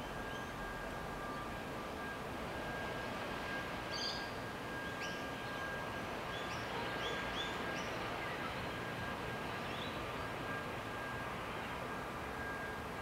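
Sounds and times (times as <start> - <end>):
faint steady high tone: 0.0 - 13.0.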